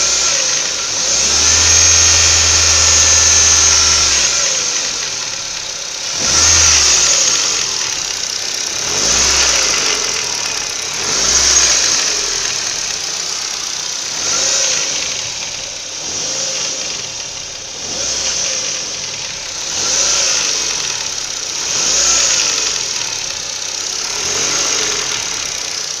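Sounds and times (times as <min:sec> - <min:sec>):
car engine revving: 0:00.0 - 0:26.0
engine knocking: 0:00.0 - 0:26.0.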